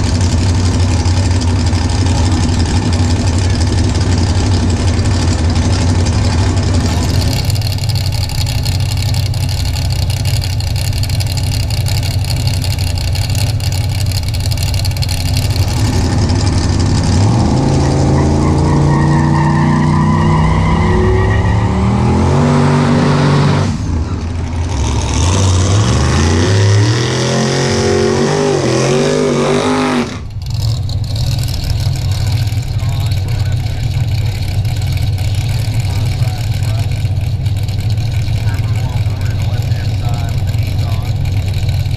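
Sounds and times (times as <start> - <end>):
drag racing car engine accelerating: 0.0 - 41.9.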